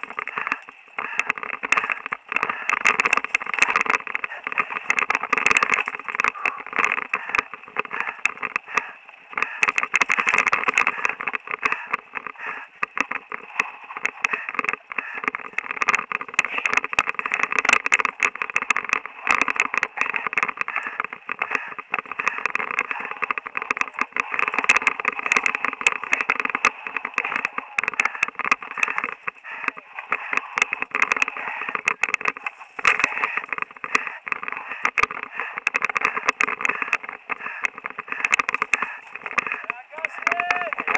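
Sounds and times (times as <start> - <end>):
bike clicks and rattles: 0.0 - 40.9
bike rushing down trail: 0.0 - 40.9.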